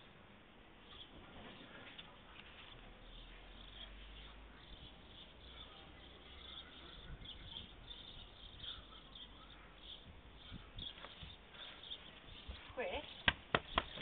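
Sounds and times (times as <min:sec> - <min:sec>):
faint outdoor ambience: 0:00.0 - 0:14.0
distant bird chirps: 0:00.7 - 0:14.0.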